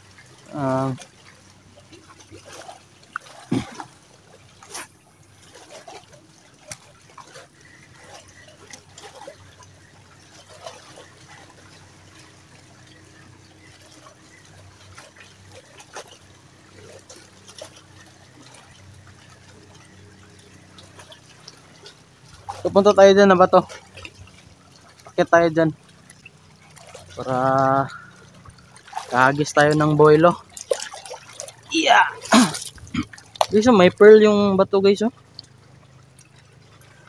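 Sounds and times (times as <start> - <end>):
small splashes: 0.0 - 37.0
water sloshing around wading legs: 0.0 - 37.0.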